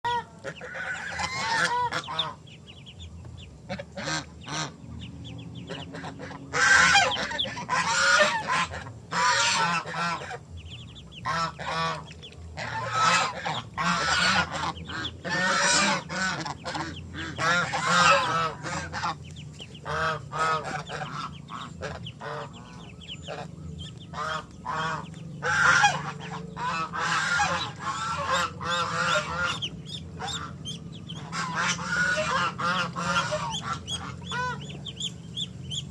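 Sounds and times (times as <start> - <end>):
geese honking: 0.1 - 35.9.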